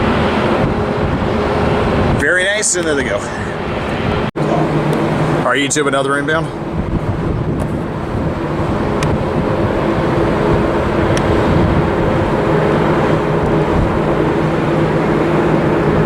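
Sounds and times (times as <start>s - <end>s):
jet airliner rumble: 0.0s - 16.0s
wind on microphone: 0.0s - 16.0s.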